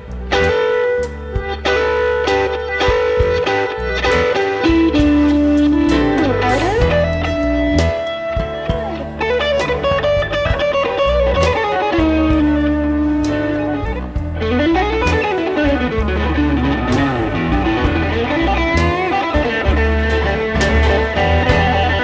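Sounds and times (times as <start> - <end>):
bass and drums: 0.0 - 22.0
electric guitar lead lines: 0.0 - 22.0.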